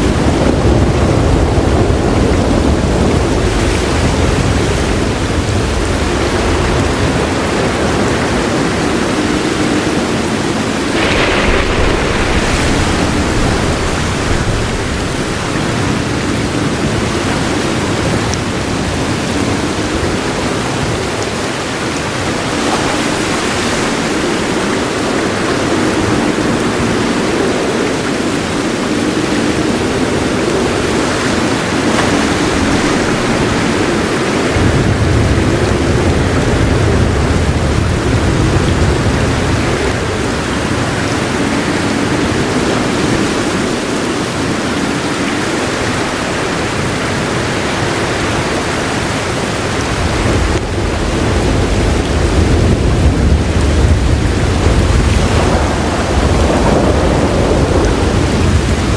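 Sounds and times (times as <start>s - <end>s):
low rumble of thunder: 0.0s - 22.6s, 29.4s - 58.9s
heavy rain falling: 0.0s - 58.9s.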